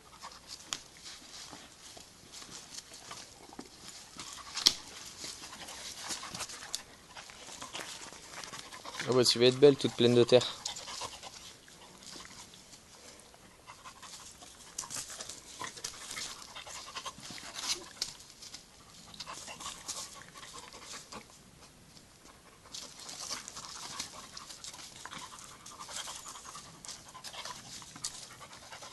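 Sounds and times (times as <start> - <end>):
paws scuffling on gravelly dirt: 0.0 - 21.2, 22.3 - 28.9
dogs panting: 0.0 - 28.9.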